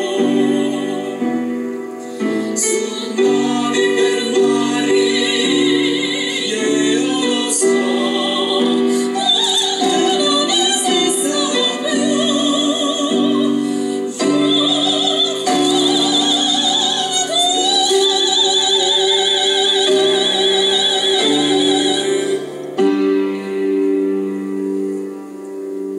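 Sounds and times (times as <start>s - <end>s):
operatic singing: 0.0s - 22.6s
piano accompaniment: 0.0s - 25.9s.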